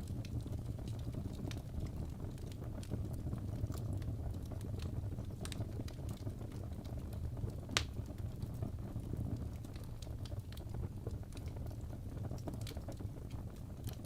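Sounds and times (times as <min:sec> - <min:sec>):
fire rumbling: 0:00.0 - 0:14.0
logs crackling and popping: 0:00.0 - 0:14.0.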